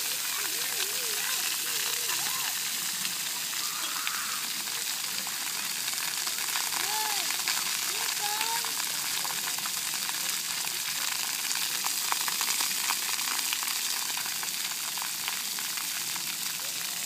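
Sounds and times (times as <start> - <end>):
fountain jets spraying: 0.0 - 17.0
water splashing on wet concrete: 0.0 - 17.0.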